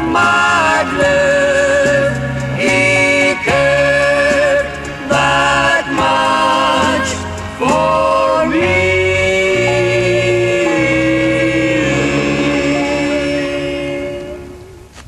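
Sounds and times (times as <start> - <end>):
gospel group singing a cappella: 0.0 - 14.7.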